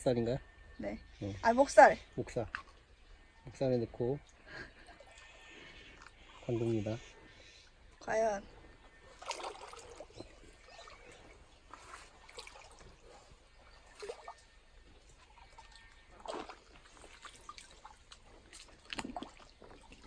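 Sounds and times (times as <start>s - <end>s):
stream water splashing and dripping: 1.8s - 20.0s.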